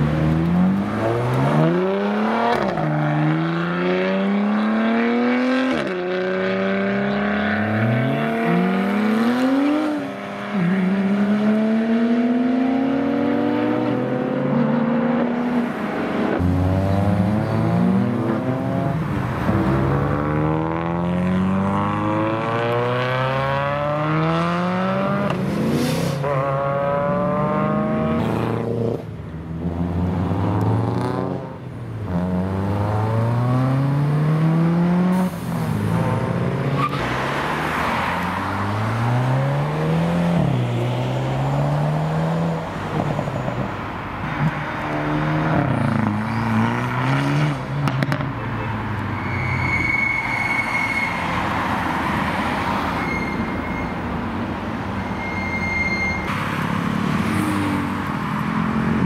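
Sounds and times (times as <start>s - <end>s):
cars accelerating hard: 0.0s - 48.4s.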